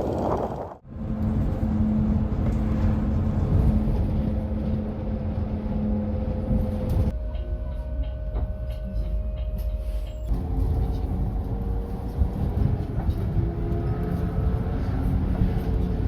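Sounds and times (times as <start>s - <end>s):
vehicle interior rumble and drone: 0.0s - 16.0s.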